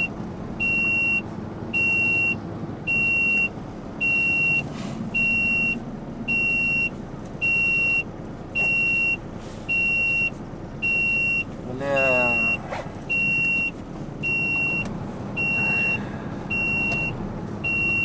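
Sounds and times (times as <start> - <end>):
high electronic warning beeps: 0.0 - 1.2, 1.8 - 18.0
diesel engine hum: 0.0 - 18.0.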